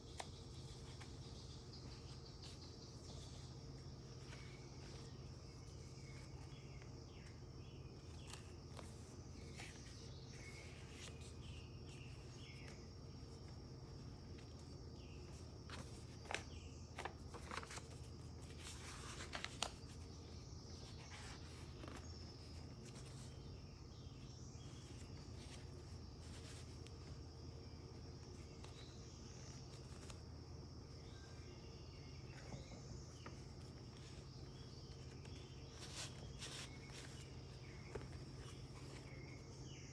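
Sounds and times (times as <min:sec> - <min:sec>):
pages rustling: 0:00.0 - 0:31.2, 0:32.5 - 0:39.7
steady low hum: 0:00.0 - 0:39.9.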